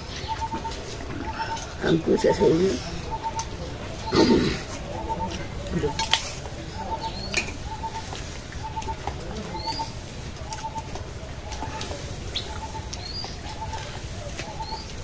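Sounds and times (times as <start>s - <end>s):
high upswept bird chirp: 0.0s - 10.9s, 11.5s - 15.0s.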